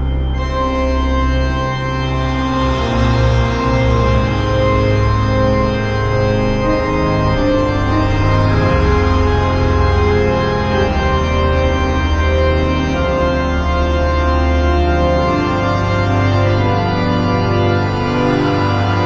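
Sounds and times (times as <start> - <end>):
organ music: 0.0 - 19.0.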